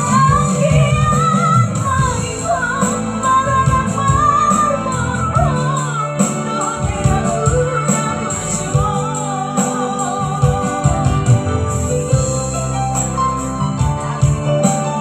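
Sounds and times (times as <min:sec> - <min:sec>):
band accompaniment with bass: 0:00.0 - 0:15.0
person singing: 0:00.0 - 0:15.0.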